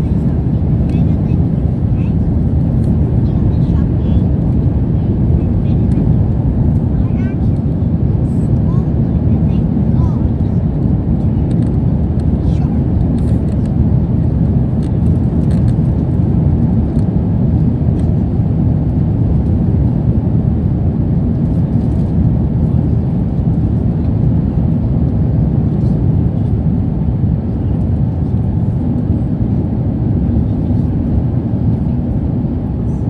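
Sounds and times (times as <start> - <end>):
airplane cabin engine roar: 0.0 - 33.0.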